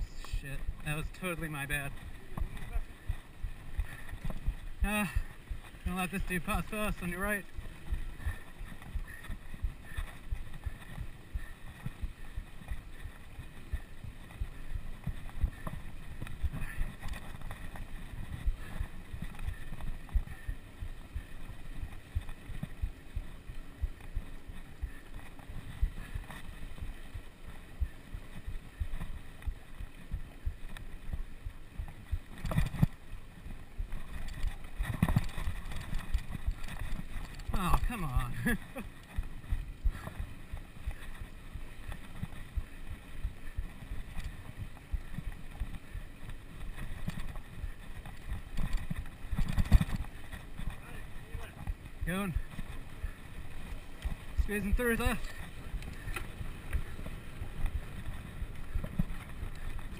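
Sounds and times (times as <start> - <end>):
wind buffeting microphone: 0.0 - 59.9
bike rattling and knocking: 0.1 - 59.9.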